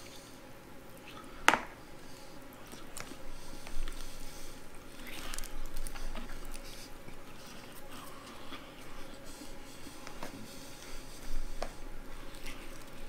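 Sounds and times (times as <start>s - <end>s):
crispy skin crackling: 0.9s - 13.0s
person chewing fried chicken: 2.0s - 13.0s.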